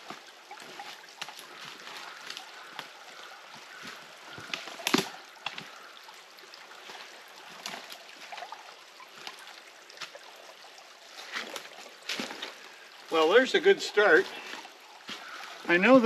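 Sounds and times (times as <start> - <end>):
stream trickling: 0.0 - 16.0
water splashing and sloshing: 0.0 - 16.0.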